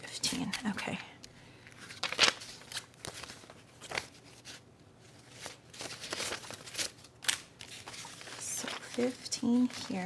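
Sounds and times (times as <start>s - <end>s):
banknotes rustling: 1.6s - 10.0s.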